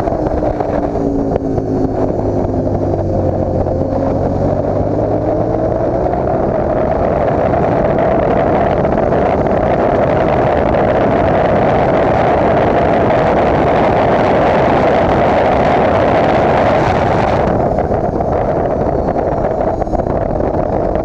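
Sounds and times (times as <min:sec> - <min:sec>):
motorcycle engine at high revs: 0:00.0 - 0:21.0
wind rush on microphone: 0:00.0 - 0:21.0.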